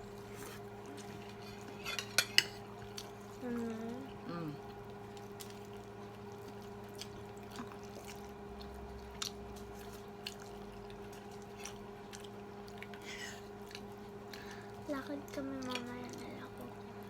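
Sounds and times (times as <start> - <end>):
faint chewing with smacks: 0.0 - 17.0.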